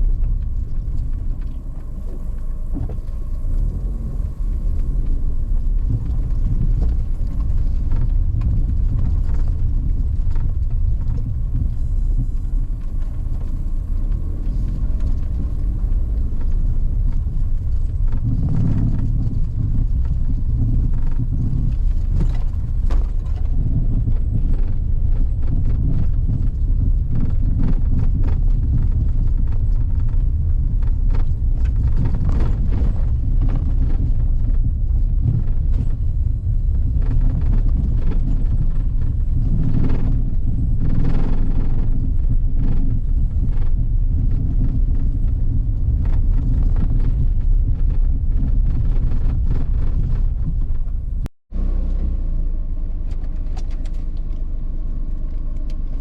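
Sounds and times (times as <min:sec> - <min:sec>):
knocks and clicks from road: 0:00.0 - 0:56.0
vehicle engine and tyres rumbling: 0:00.0 - 0:56.0.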